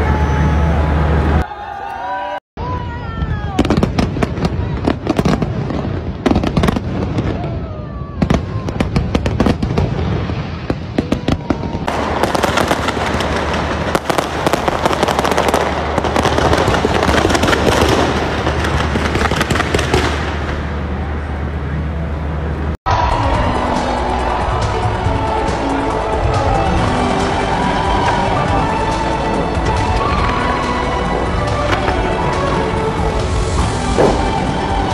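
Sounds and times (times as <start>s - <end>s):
fireworks crackling: 3.4s - 21.3s, 24.2s - 34.9s.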